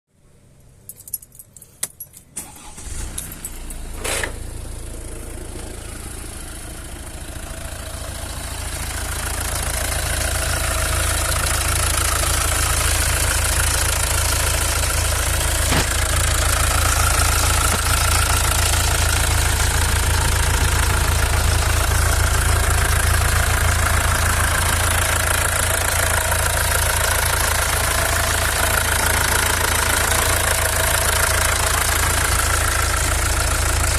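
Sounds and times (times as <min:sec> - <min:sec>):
diesel engine starting and idling: 0:02.3 - 0:33.9.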